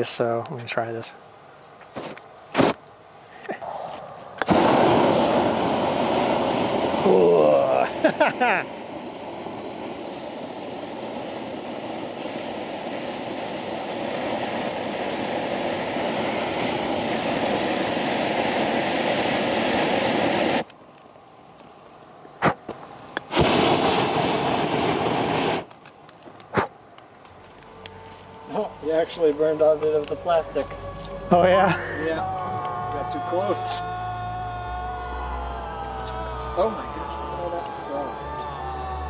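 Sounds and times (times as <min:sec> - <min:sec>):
flame gun hissing: 0:01.1 - 0:21.7, 0:22.3 - 0:39.0.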